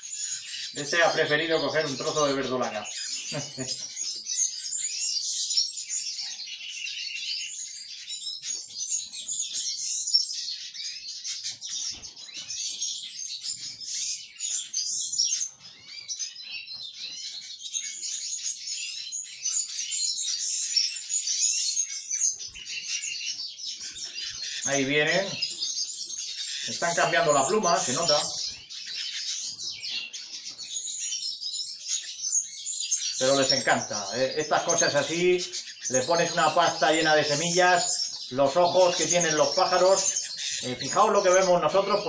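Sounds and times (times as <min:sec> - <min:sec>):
canaries chirping: 0:00.0 - 0:42.0.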